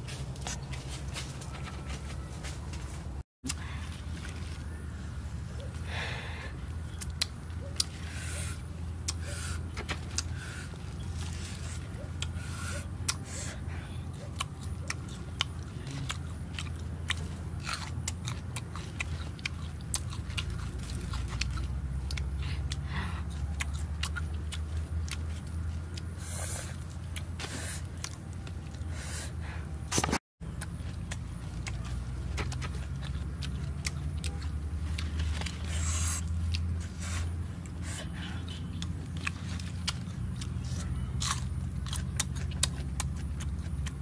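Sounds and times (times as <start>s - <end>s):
crunchy fruit chewing: 0.0s - 44.0s.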